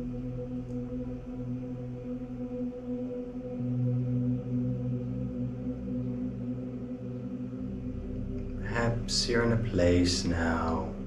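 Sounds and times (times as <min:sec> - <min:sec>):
ambient droning music: 0:00.0 - 0:11.0.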